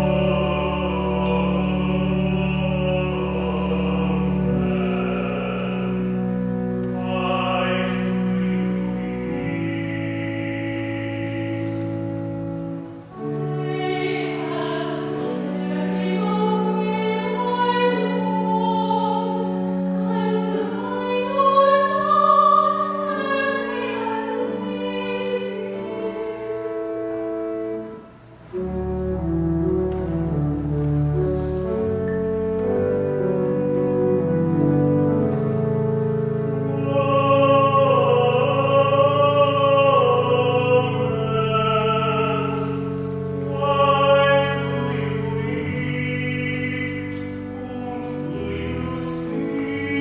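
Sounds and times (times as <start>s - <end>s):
voices singing a hymn: 0.0s - 12.5s, 13.1s - 28.6s, 36.6s - 50.0s
organ chords: 0.0s - 50.0s.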